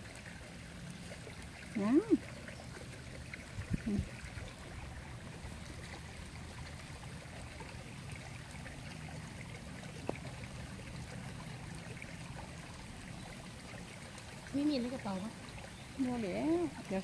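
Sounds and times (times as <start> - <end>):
light rain on water: 0.0 - 17.0.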